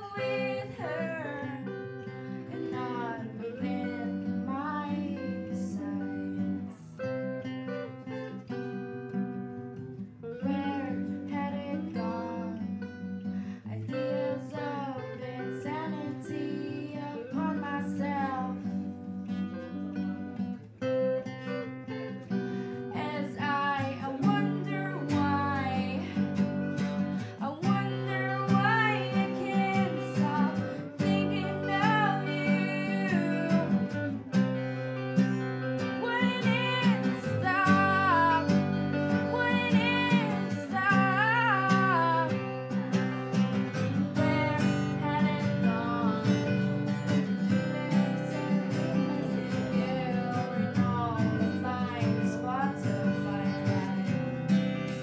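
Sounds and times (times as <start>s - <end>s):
acoustic guitars strummed and picked: 0.0s - 55.0s
woman singing: 0.0s - 55.0s.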